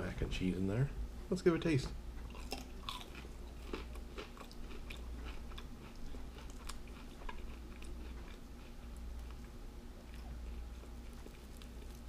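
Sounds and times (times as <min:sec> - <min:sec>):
person chewing crunchy snack: 0:02.3 - 0:12.0.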